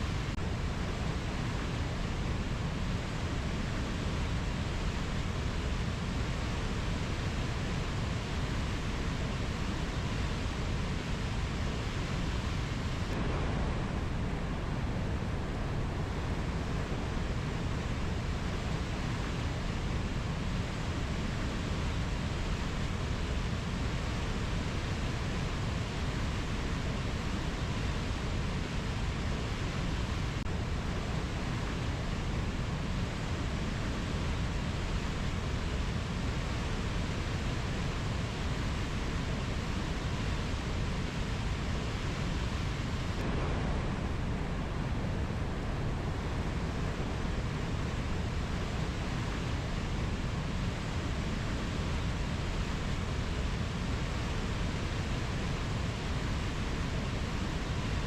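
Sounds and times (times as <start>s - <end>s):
rainforest ambience rushing noise: 0.0s - 58.0s.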